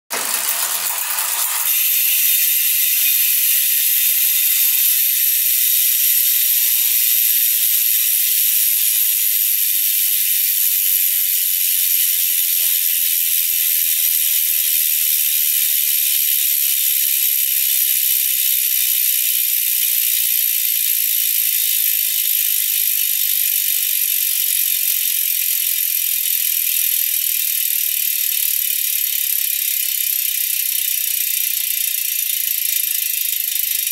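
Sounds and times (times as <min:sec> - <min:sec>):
bicycle freehub ratcheting whirr: 0:00.1 - 0:33.9.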